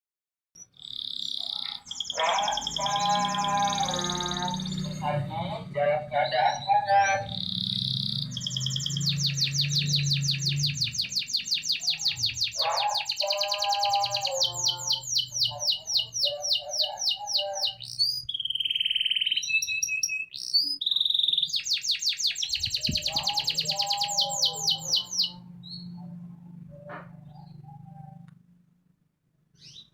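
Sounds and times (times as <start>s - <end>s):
canary singing trills: 0.6s - 28.5s, 29.6s - 29.9s.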